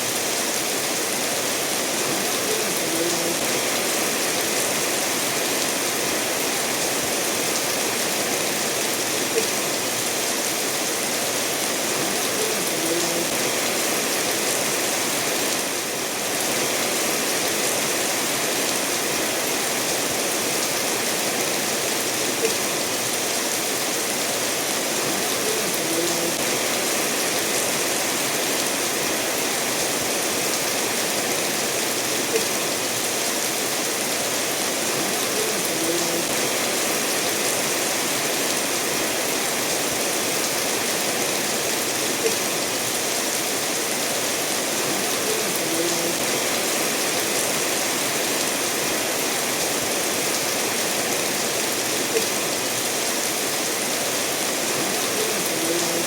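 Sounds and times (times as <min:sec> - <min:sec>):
steady rainfall: 0:00.0 - 0:56.0
stream rushing between stones: 0:00.0 - 0:56.0.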